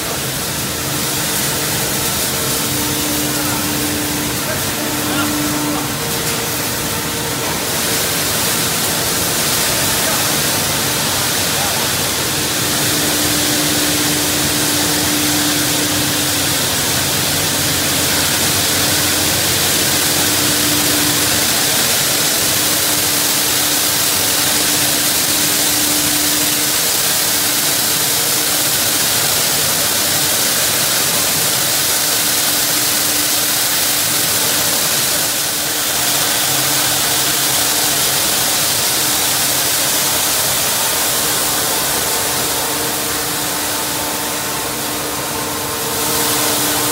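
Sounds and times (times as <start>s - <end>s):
machinery hum: 0.0s - 46.9s.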